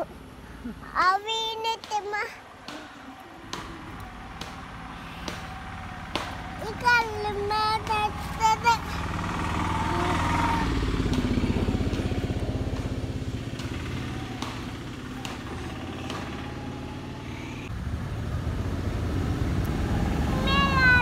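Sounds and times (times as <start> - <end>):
small engine running: 0.0 - 17.7, 18.4 - 21.0.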